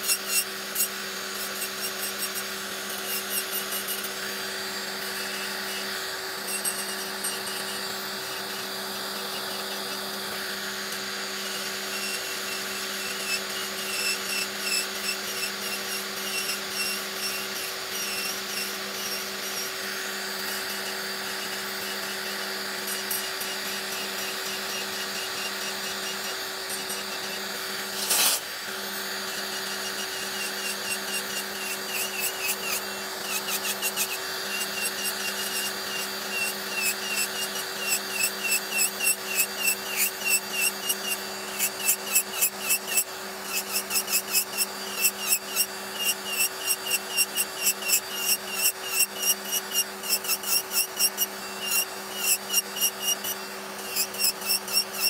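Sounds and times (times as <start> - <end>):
electric nail drill humming: 0.0 - 55.0
sanding bit filing a nail: 0.0 - 55.0.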